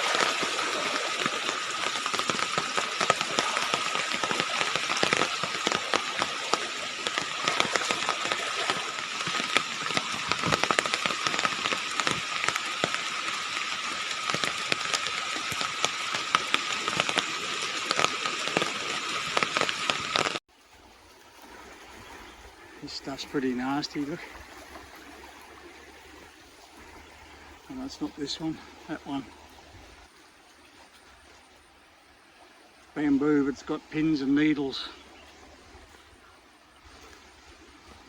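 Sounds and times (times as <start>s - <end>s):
stream water rushing: 0.0s - 38.0s.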